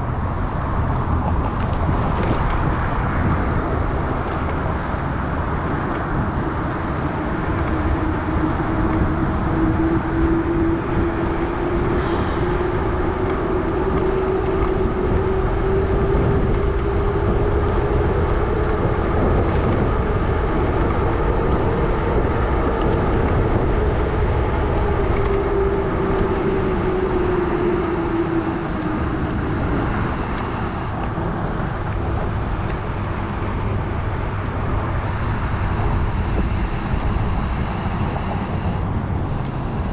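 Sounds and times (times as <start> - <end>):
bicycle tyres humming: 0.0 - 39.9
low rumble: 0.0 - 39.9.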